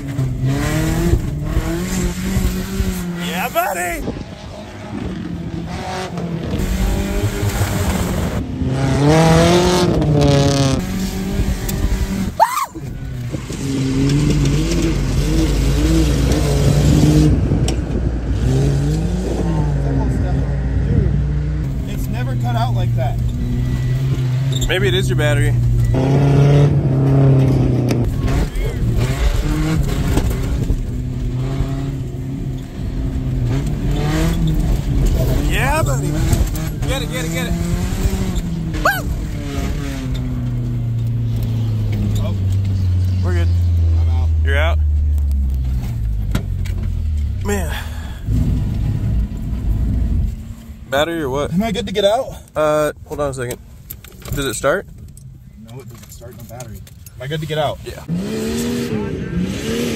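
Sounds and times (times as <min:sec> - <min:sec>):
racing engines revving: 0:00.0 - 0:59.9.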